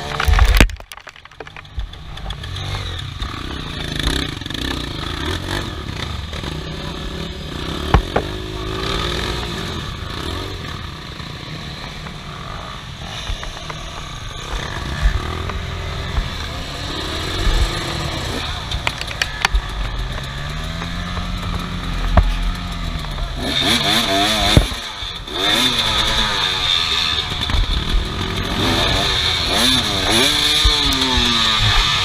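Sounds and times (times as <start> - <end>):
off-road vehicle engine running: 0.0 - 32.0.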